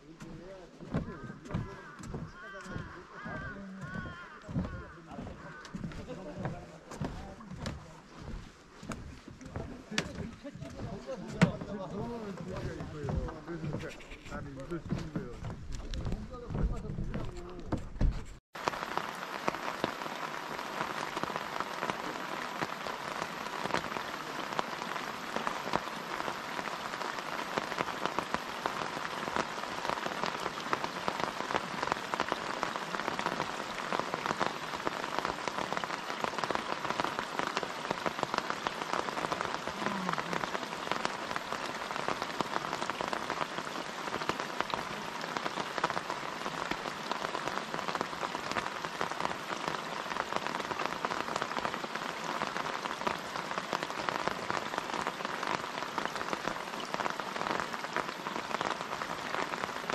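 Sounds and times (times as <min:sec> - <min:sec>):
rain falling on pond: 0:00.0 - 0:59.9.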